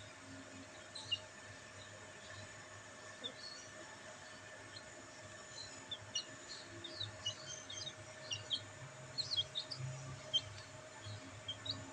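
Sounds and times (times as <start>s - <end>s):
faint steady hum: 0.0s - 11.9s
chicks peeping: 0.5s - 11.9s.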